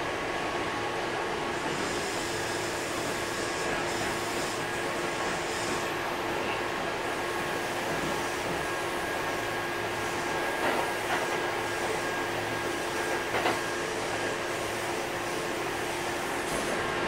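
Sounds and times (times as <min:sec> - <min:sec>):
train running hum and whine: 0:00.0 - 0:17.0.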